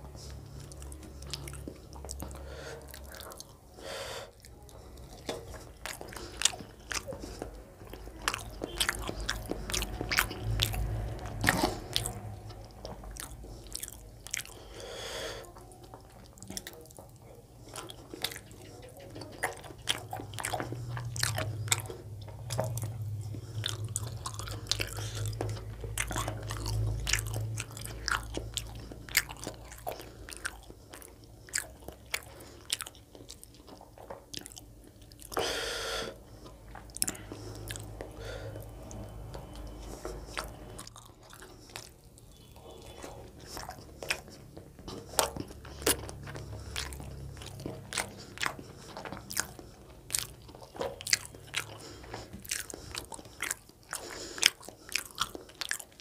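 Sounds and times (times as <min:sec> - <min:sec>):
chewing with wet mouth clicks: 0:00.0 - 0:56.0.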